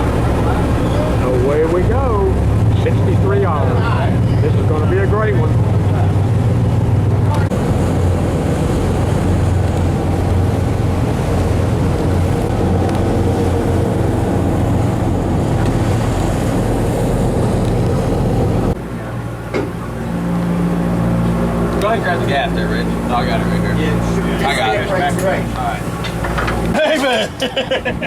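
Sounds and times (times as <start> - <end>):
boat engine humming: 0.0 - 28.0
water noise: 0.0 - 28.0
wind: 0.0 - 28.0.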